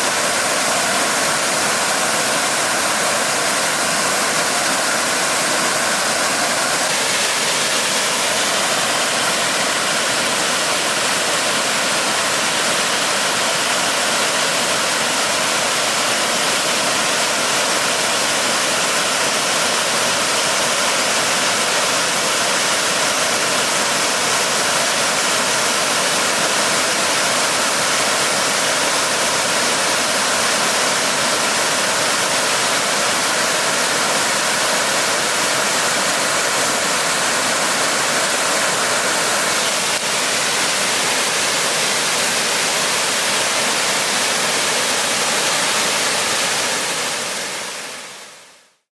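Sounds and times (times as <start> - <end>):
waterfall crashing into pool: 0.0 - 48.9.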